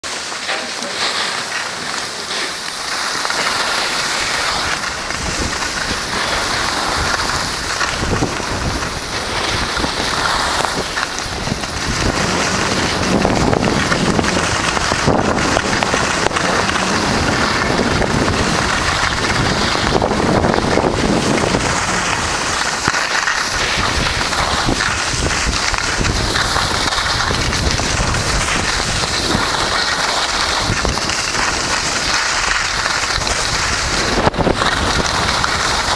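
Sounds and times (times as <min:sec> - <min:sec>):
sliding over snow: 0:00.0 - 0:35.9
wind on microphone: 0:04.5 - 0:35.9.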